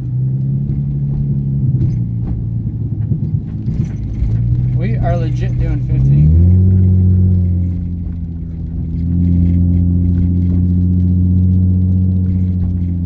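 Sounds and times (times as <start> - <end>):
car engine droning from cabin: 0.0 - 13.0.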